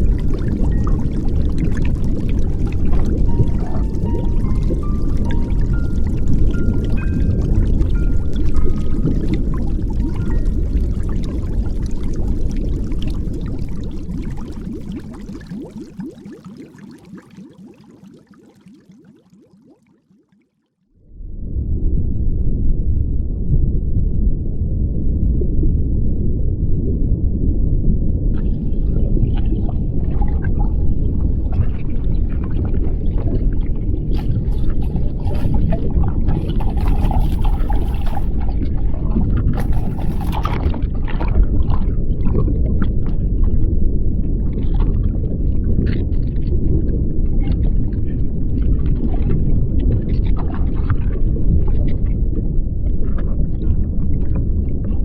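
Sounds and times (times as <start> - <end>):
underwater rumble of moving water: 0.0 - 19.4, 21.0 - 55.0.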